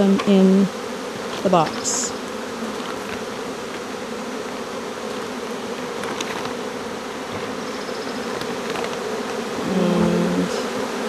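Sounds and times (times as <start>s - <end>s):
swarm of bees buzzing: 0.0s - 11.0s.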